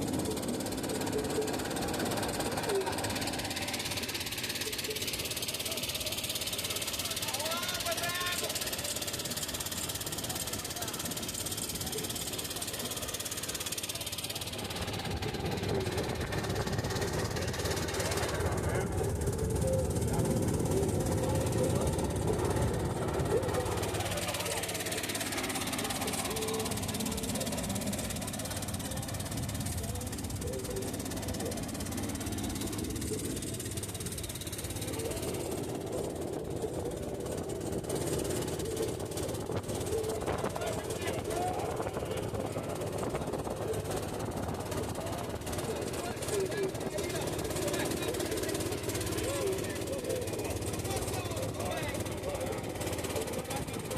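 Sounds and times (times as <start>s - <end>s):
boat engine running: 0.0s - 53.9s.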